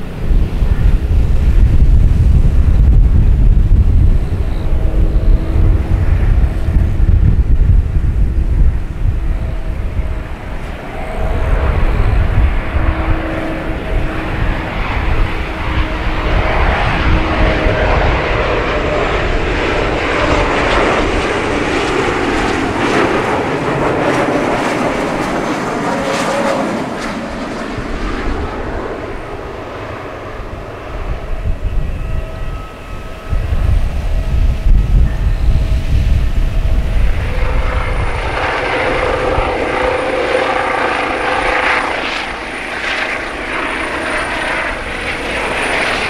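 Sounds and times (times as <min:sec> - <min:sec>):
jet engines of landing aircraft: 0:00.0 - 0:46.0.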